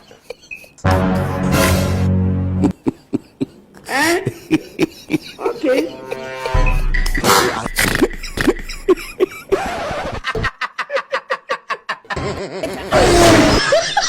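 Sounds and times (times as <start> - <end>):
person laughing: 2.6 - 14.0.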